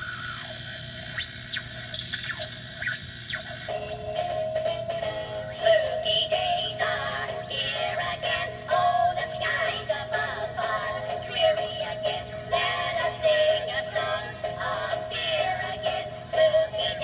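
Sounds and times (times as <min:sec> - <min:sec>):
song through small speaker: 0:03.3 - 0:17.0.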